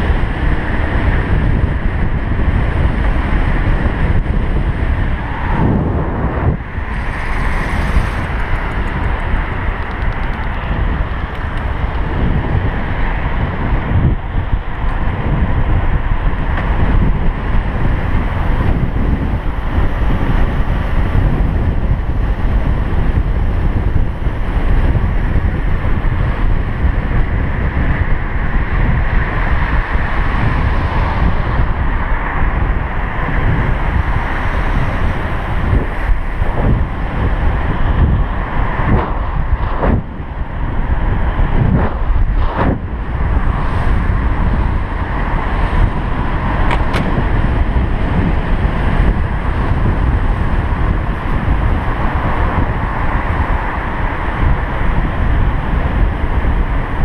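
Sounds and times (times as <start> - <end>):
bicycle tyre rumble: 0.0 - 57.0
wind buffeting microphone: 0.0 - 57.0.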